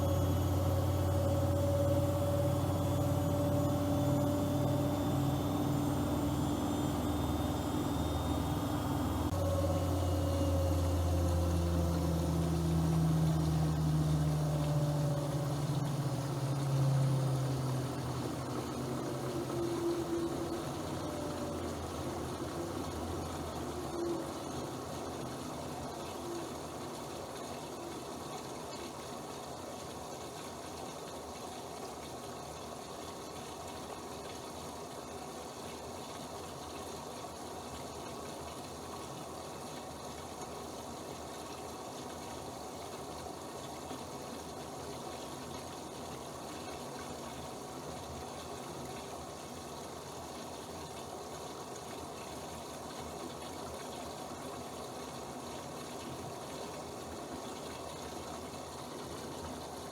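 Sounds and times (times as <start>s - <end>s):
washing machine water rushing: 0.0s - 59.9s.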